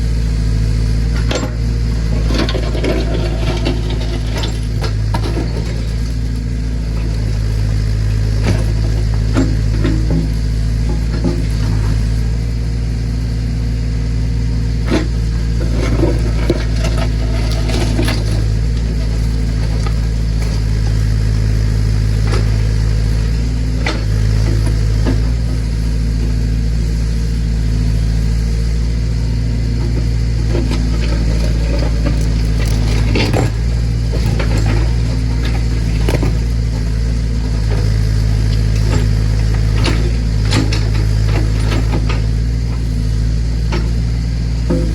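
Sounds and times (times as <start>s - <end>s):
tractor engine running: 0.0s - 44.9s
hydraulics: 1.1s - 12.8s, 14.7s - 44.9s.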